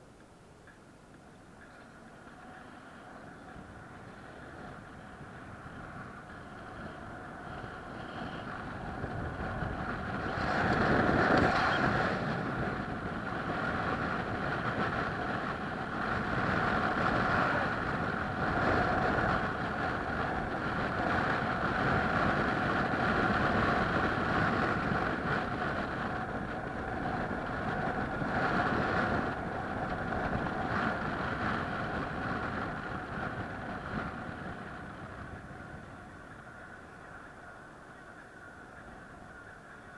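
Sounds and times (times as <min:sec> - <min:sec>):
vehicle running noise: 0:00.0 - 0:39.9.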